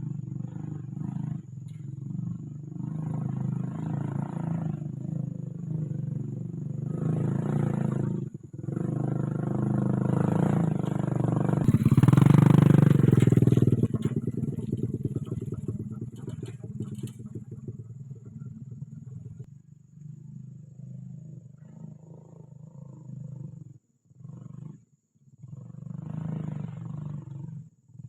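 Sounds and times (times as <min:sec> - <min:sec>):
motorcycle engine revving: 0:00.0 - 0:24.8, 0:25.4 - 0:28.0.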